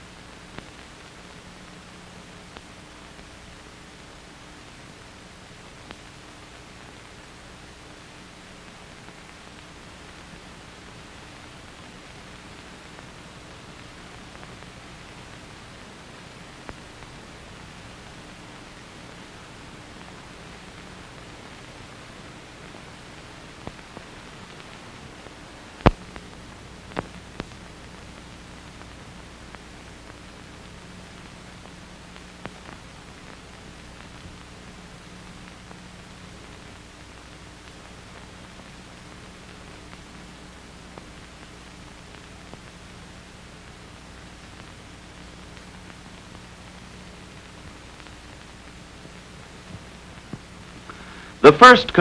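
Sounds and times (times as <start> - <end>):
film soundtrack hiss: 0.0 - 52.0.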